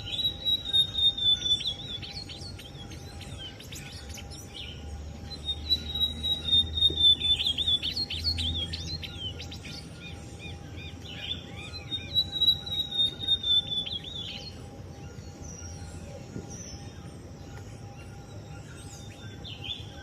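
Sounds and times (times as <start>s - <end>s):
bird singing warbled notes: 0.0s - 20.0s.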